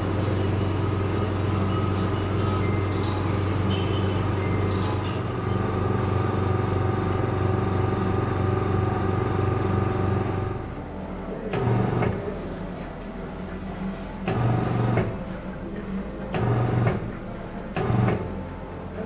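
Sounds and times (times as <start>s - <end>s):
vacuum pump humming: 0.0s - 19.0s.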